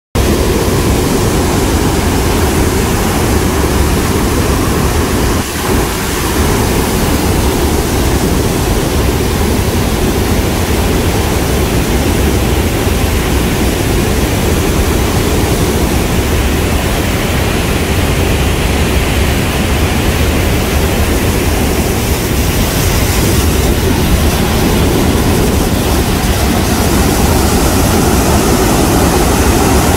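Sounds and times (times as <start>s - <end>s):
water rushing through spillway: 0.2s - 29.9s.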